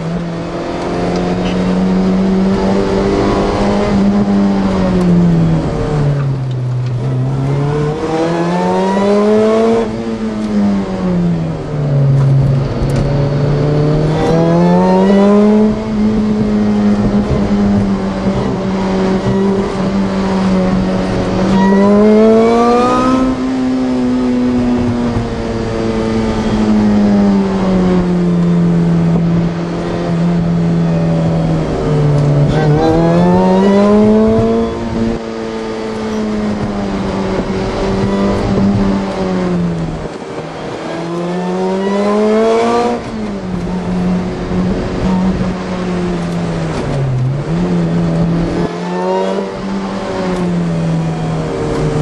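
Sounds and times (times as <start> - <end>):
supercharged car engine revving: 0.0 - 52.0.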